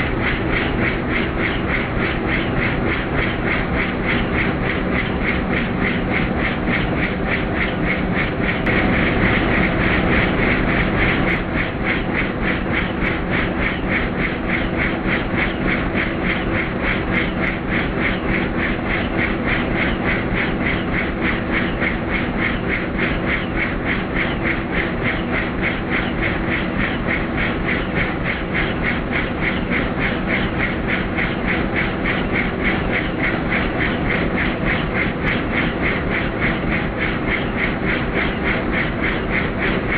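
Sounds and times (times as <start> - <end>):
helicopter engine drone: 0.0 - 39.9
helicopter rotor blades beating: 0.0 - 39.9.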